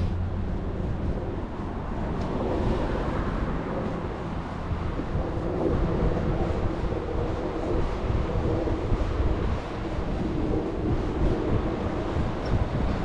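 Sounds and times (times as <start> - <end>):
cars passing: 0.0 - 13.0
wind on microphone: 0.0 - 13.0.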